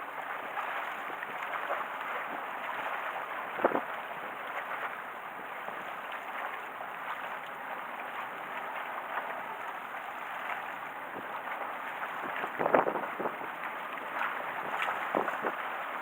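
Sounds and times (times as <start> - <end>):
small waves splashing on concrete: 0.0 - 16.0.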